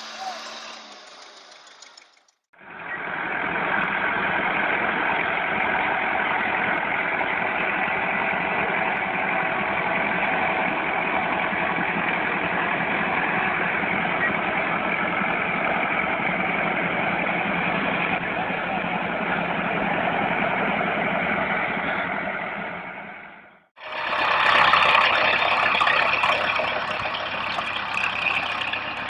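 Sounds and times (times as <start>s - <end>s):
tractor engine under load: 0.0s - 29.0s.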